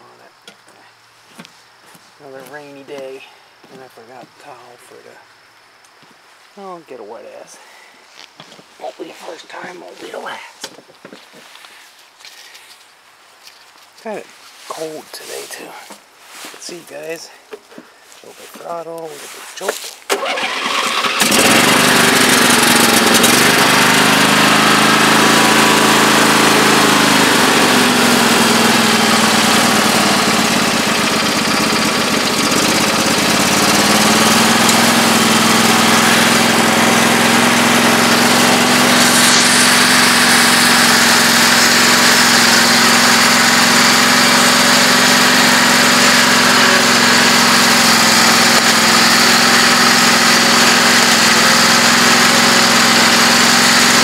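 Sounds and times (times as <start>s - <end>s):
riding mower engine running: 1.3s - 5.1s, 6.6s - 12.4s, 18.4s - 54.0s.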